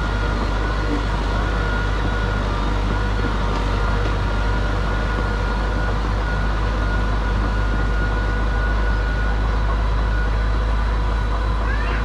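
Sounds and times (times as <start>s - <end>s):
diesel engine droning: 0.0s - 12.0s
thin steady whine: 0.0s - 12.0s.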